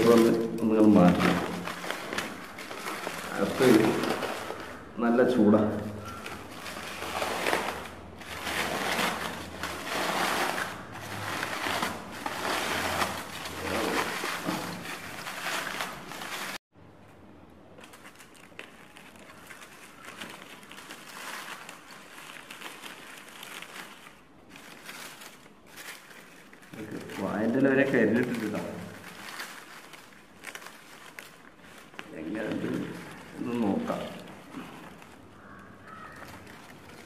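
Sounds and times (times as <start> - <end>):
aluminium foil crinkling and tearing: 0.0 - 16.6, 17.8 - 37.0
leaf wrapping rustling: 0.0 - 16.6, 17.6 - 37.0.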